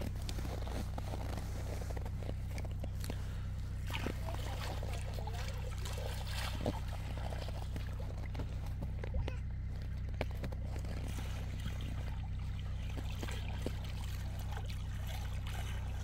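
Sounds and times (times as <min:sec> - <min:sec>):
low rumble: 0:00.0 - 0:16.0
water sloshing and trickling: 0:00.0 - 0:16.0
small water splashes: 0:02.2 - 0:16.0.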